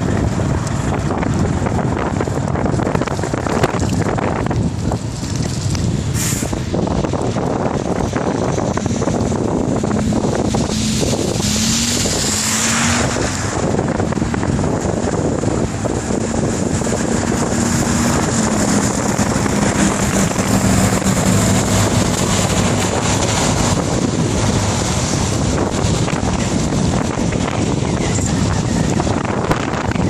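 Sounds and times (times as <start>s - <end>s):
low traffic engine hum: 0.0s - 30.0s
wind rushing over microphone: 0.0s - 30.0s.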